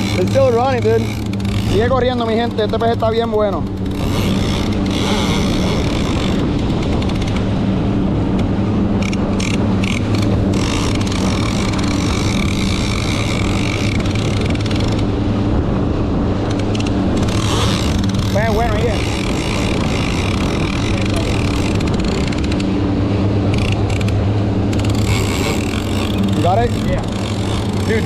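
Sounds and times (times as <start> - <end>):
outboard motors running: 0.0 - 28.0
water rushing from wake: 0.0 - 28.0.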